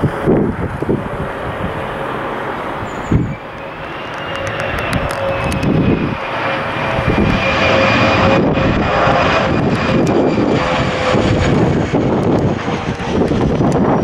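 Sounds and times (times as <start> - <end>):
jet engines whining: 0.0 - 14.0
wind buffeting microphone: 0.0 - 14.0.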